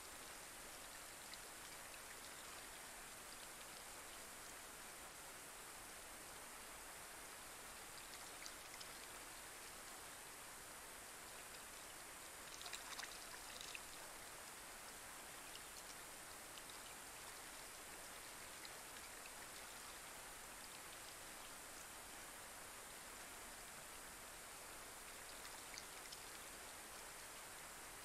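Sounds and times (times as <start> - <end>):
light rain on a pond: 0.0 - 28.0.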